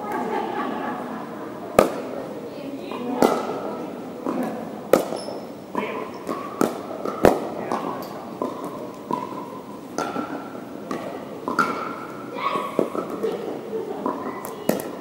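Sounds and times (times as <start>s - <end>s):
paddles striking balls: 1.7s - 2.2s, 2.9s - 15.0s.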